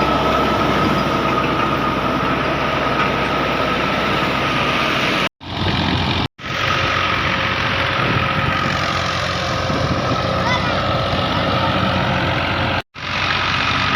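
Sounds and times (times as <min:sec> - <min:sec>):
harvester engine running: 0:00.0 - 0:13.9.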